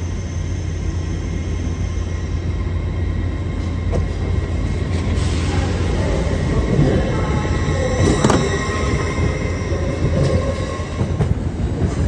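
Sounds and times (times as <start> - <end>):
electric train humming: 0.0 - 12.0.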